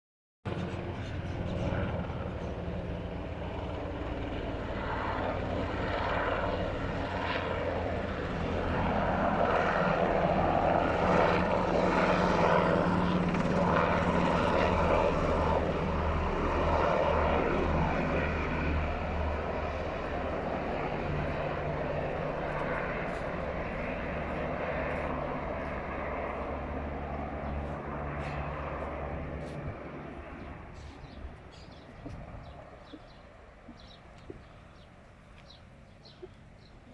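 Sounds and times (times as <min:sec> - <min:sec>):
helicopter rotor and turbine drone: 0:00.5 - 0:36.9.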